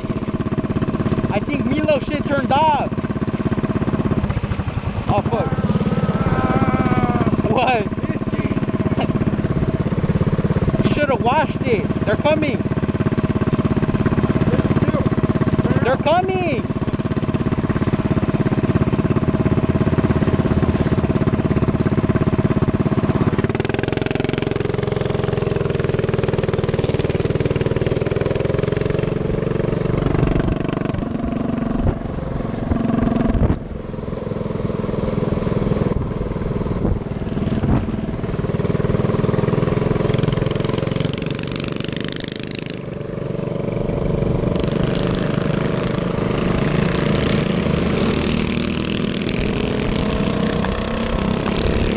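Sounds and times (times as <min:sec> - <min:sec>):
minibike engine revving: 0:00.0 - 0:51.9.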